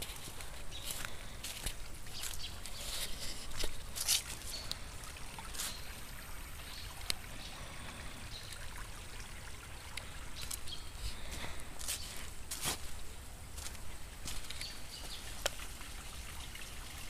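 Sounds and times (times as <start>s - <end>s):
water trickling over stones: 0.0s - 17.0s.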